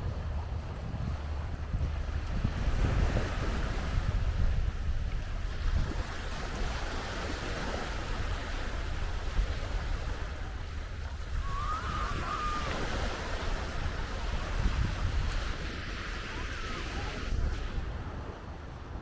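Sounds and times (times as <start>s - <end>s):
sea waves washing on beach: 0.0s - 19.0s
wind buffeting microphone: 0.0s - 19.0s.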